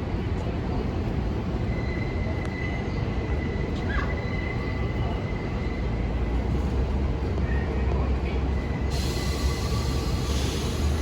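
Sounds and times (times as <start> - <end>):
train low rumble: 0.0 - 11.0.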